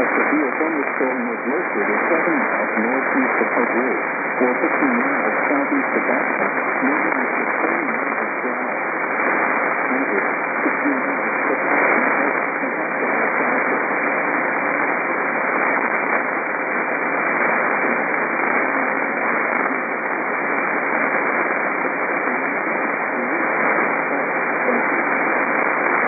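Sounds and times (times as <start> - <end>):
faint voice on radio: 0.0 - 9.0, 9.8 - 15.2, 17.8 - 26.0
radio static hiss: 0.0 - 26.0.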